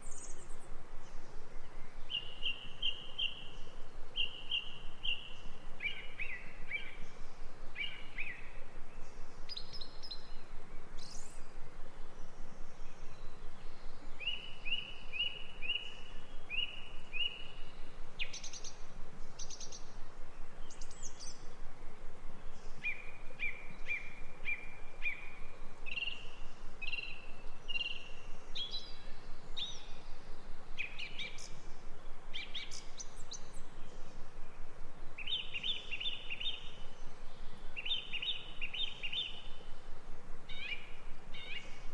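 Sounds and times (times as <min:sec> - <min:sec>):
songbirds chirping: 0:00.0 - 0:41.9
steady background hiss: 0:00.0 - 0:41.9.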